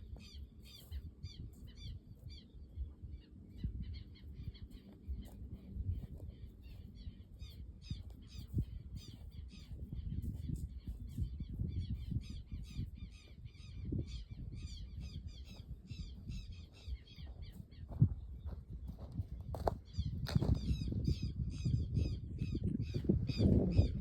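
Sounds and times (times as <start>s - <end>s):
dense bird chorus: 0.0s - 24.0s.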